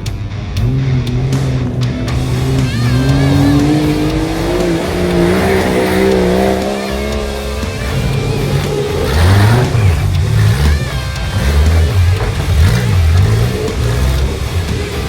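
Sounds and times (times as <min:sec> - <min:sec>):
music: 0:00.0 - 0:15.0
race car engine running hard: 0:00.0 - 0:15.0.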